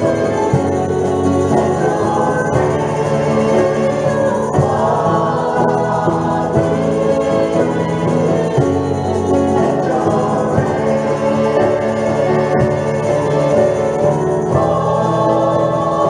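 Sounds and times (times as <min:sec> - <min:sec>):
choir singing worship song: 0:00.0 - 0:16.0
instrumental accompaniment: 0:00.0 - 0:16.0.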